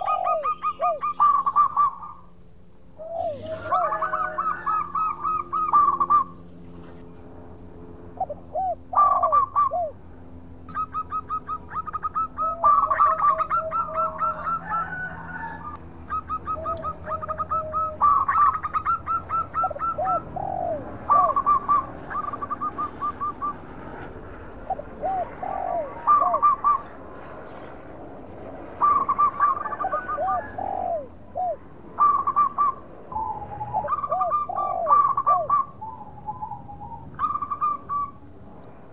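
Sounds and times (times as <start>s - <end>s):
dove cooing: 0.0s - 2.3s, 3.0s - 6.5s, 8.2s - 10.0s, 10.7s - 23.6s, 24.6s - 27.0s, 28.8s - 38.2s.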